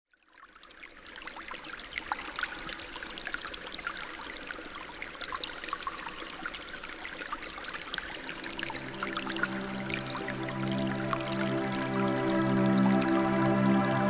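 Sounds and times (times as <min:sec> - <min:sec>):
stream trickling over stones: 0:00.1 - 0:14.0.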